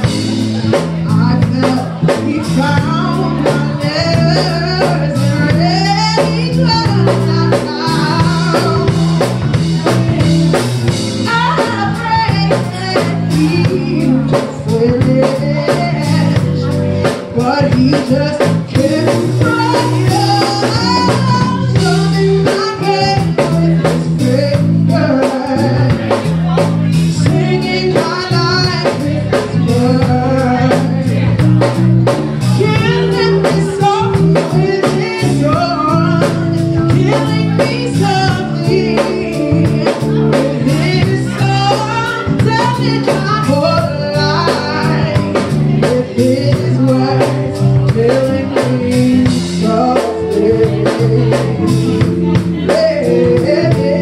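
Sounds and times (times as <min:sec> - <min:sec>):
woman singing: 0:00.0 - 0:10.4, 0:11.0 - 0:54.0
live band playing soul: 0:00.0 - 0:54.0.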